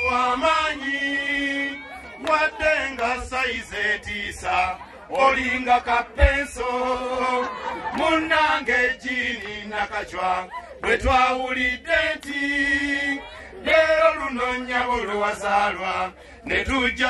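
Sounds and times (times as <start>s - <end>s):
choir singing a hymn-like chant: 0.0s - 17.0s.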